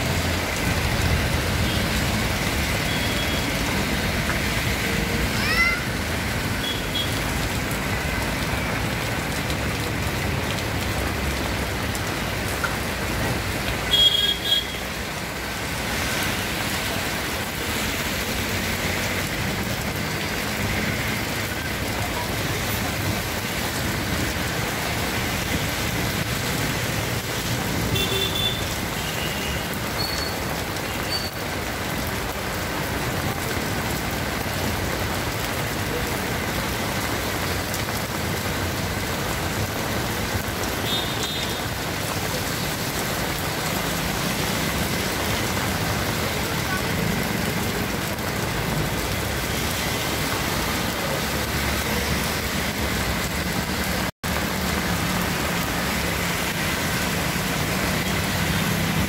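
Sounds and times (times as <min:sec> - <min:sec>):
heavy rain pouring: 0:00.0 - 0:59.0
traffic passing through water: 0:00.0 - 0:59.0.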